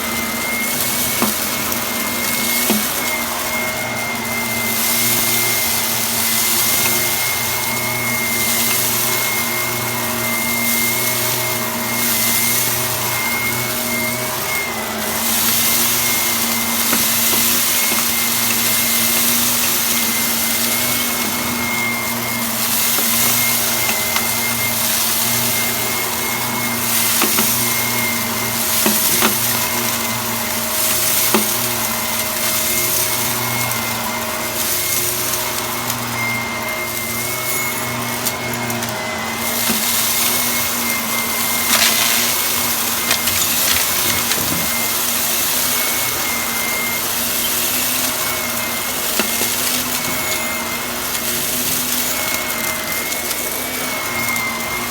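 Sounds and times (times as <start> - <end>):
debris clicking in vacuum: 0.0 - 54.9
vacuum cleaner running: 0.0 - 54.9.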